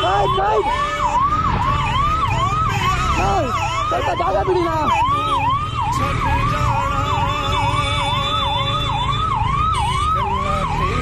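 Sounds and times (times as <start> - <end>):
siren yelping: 0.0 - 11.0.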